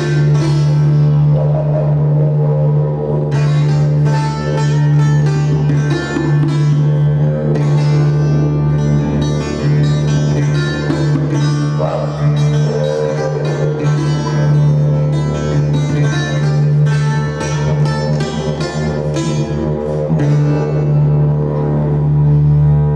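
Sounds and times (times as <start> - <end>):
low drone: 0.0 - 22.9
plucked string notes: 0.0 - 22.9.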